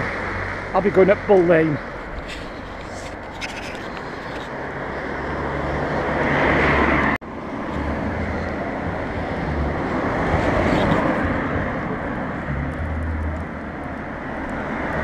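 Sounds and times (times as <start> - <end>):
car passing close: 0.0 - 15.0
low traffic rumble: 0.0 - 15.0.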